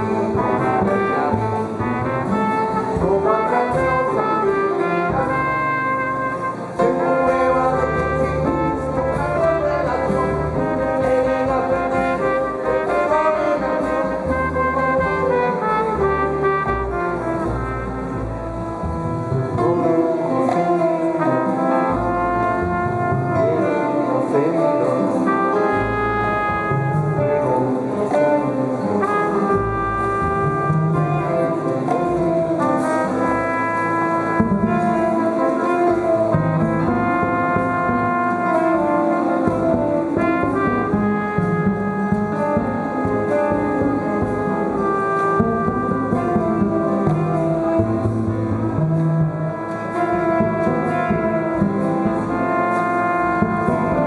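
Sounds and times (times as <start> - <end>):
live jazz band playing: 0.0 - 54.0
moving bass line: 0.0 - 54.0.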